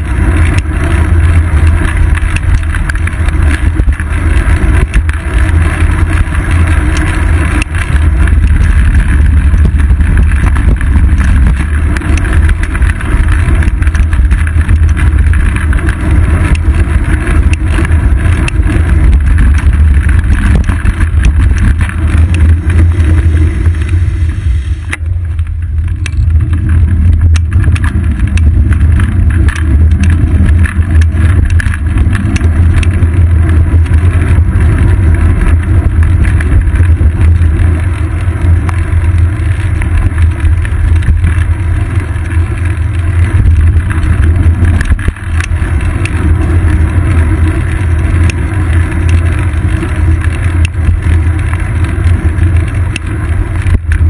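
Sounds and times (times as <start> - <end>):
wheels knocking over bumps: 0.0 - 24.2, 24.9 - 54.0
bicycle road rumble: 0.0 - 54.0
wind buffeting: 0.0 - 54.0.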